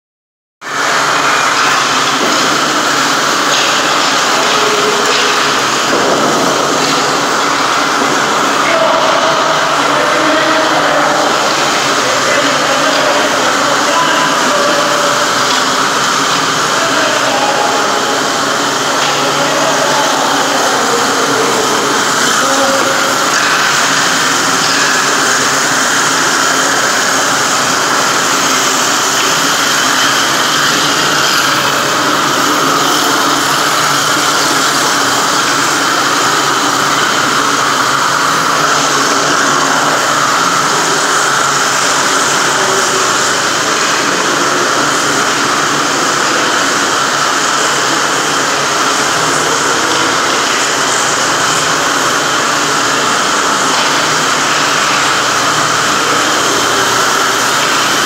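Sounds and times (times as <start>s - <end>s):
motor-driven machine running: 0.7s - 58.0s.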